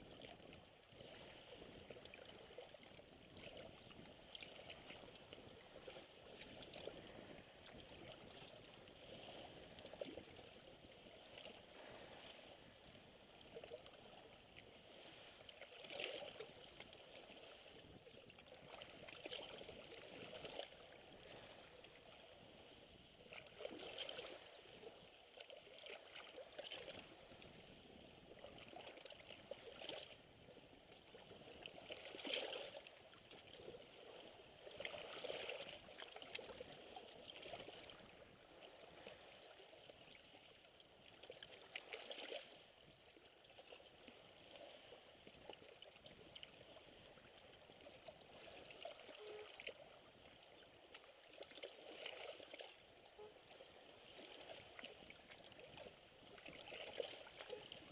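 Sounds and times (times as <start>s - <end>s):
waves lapping on rocky shore: 0.0s - 57.9s.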